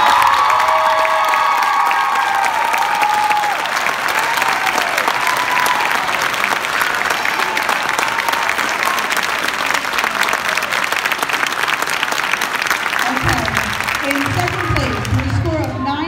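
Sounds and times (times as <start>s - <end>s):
audience clapping: 0.0s - 16.0s.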